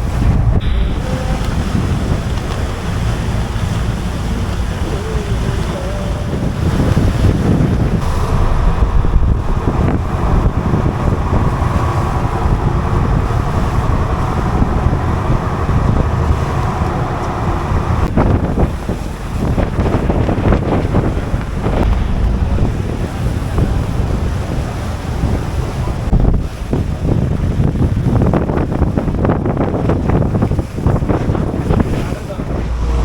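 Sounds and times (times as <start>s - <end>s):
waves washing: 0.0s - 33.0s
wind buffeting microphone: 0.0s - 33.0s.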